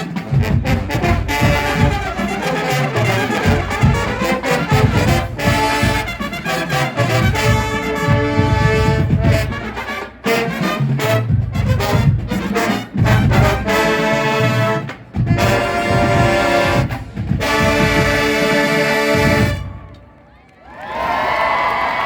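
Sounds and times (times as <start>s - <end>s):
drums: 0.0s - 20.0s
marching band brass chords: 0.0s - 20.3s.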